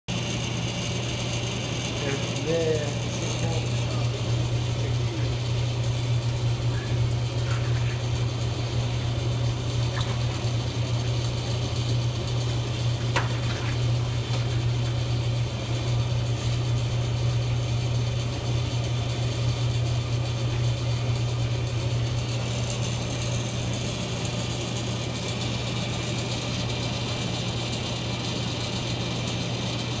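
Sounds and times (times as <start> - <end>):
electric pump humming: 0.1 - 30.0.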